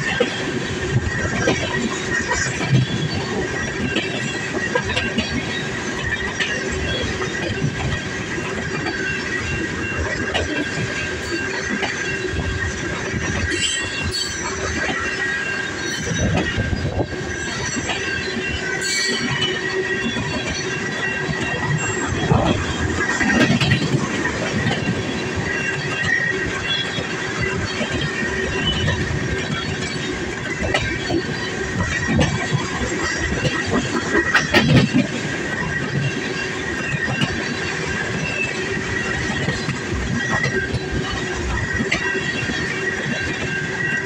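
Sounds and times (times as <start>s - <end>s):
steel wheels squealing: 0.0s - 44.0s
wheels clicking over rail joints: 0.0s - 44.0s.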